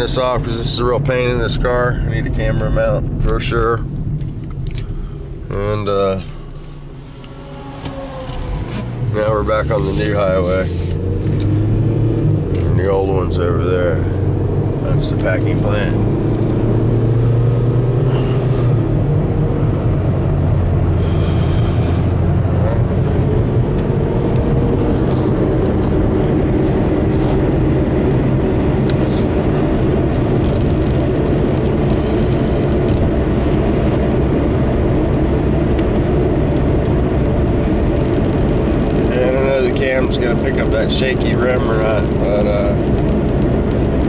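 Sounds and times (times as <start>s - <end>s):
car engine and road drone: 0.0s - 44.0s.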